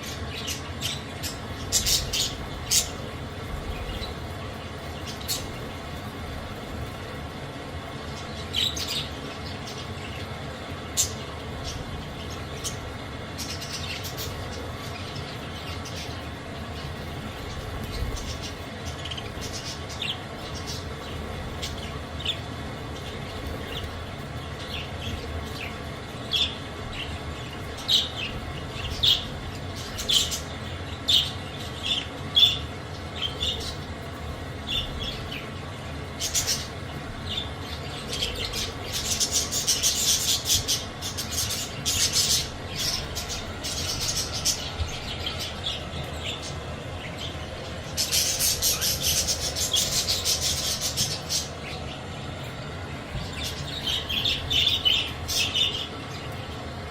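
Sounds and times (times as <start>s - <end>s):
budgerigars chirping and squawking: 0.0s - 56.5s.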